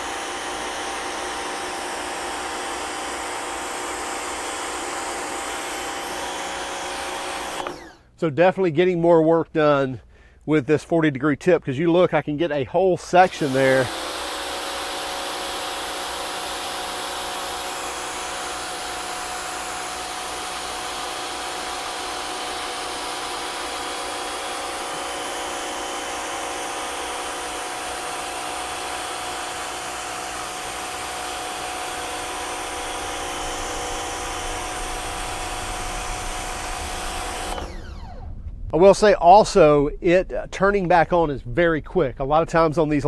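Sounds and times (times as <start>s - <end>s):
pressure washer whine: 0.0s - 8.2s, 13.1s - 41.2s.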